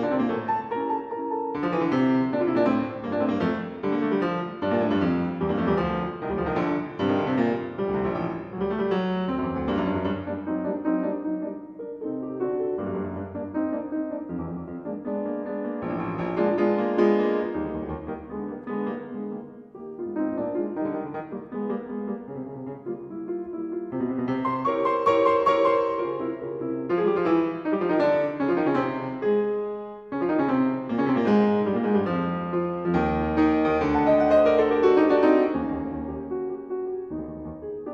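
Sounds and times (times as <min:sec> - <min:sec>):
piano music: 0:00.0 - 0:37.9.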